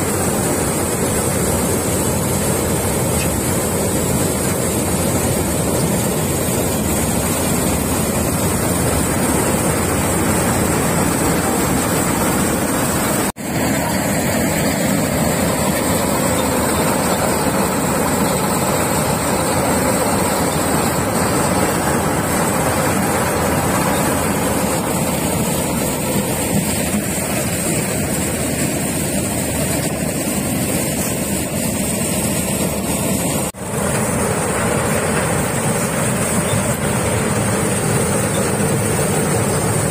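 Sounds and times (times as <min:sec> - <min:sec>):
combine harvester threshing: 0:00.0 - 0:39.9.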